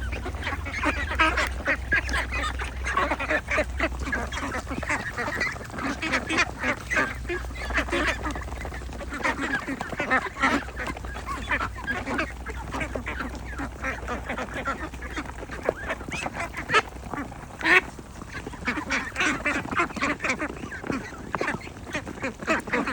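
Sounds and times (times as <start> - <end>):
ducks quacking: 0.0 - 22.9.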